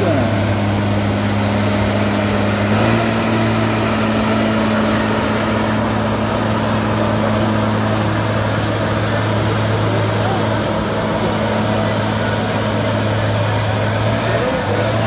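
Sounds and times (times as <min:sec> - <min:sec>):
truck engine running low: 0:00.0 - 0:15.0.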